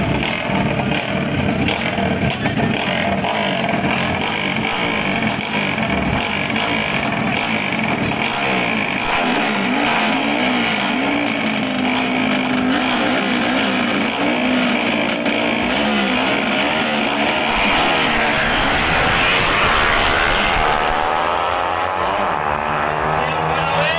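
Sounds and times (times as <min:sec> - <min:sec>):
motorcycle engines revving: 0:00.0 - 0:23.9.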